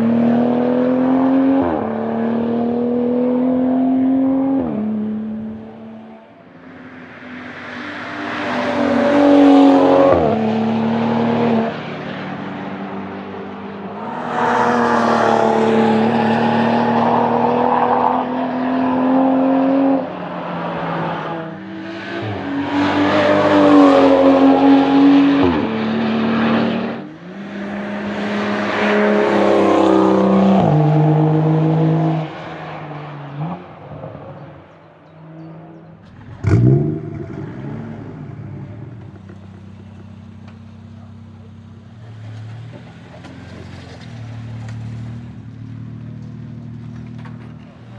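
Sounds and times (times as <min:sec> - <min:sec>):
racing cars driving past: 0:00.0 - 0:47.9.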